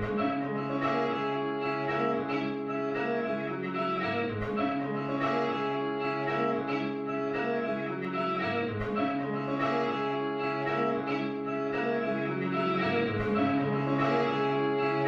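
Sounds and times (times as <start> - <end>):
sustained chords: 0.0 - 15.0.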